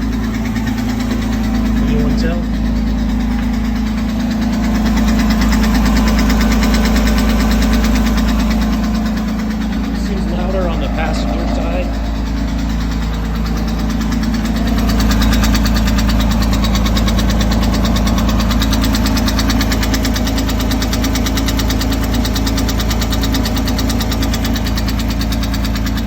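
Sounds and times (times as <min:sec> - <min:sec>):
car engine running: 0:00.0 - 0:26.0
fast valvetrain knocking: 0:00.0 - 0:26.0.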